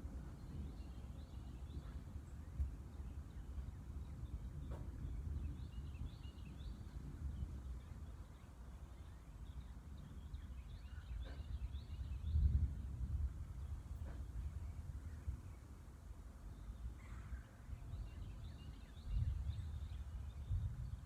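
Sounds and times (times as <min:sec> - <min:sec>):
birds chirping: 0:00.2 - 0:12.8, 0:13.5 - 0:21.0.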